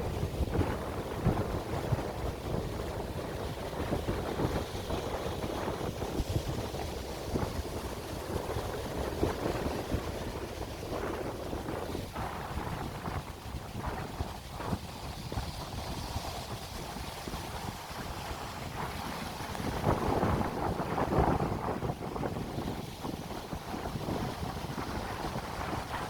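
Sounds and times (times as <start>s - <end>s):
sea waves rushing: 0.0s - 26.0s
wind buffeting microphone: 0.0s - 26.0s.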